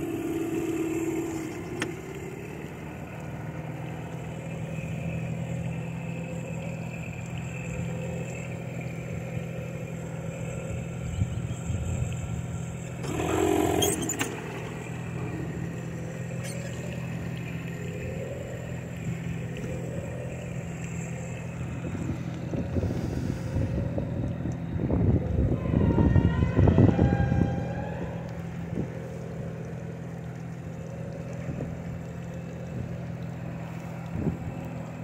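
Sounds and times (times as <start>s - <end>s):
motorboat engine idling: 0.0s - 35.0s
wind: 0.0s - 35.0s.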